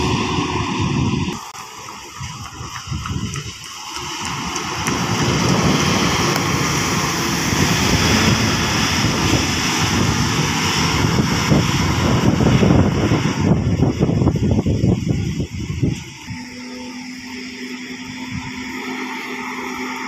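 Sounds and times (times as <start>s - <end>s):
bus diesel engine pulling hard: 0.0s - 20.0s.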